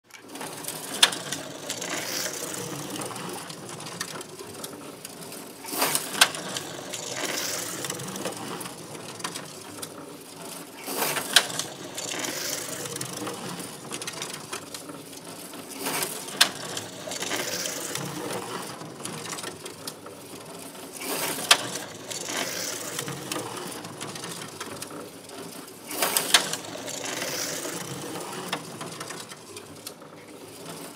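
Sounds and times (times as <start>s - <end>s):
slot car clacking on track: 0.1s - 30.9s
slot car motor whirring: 0.2s - 30.9s.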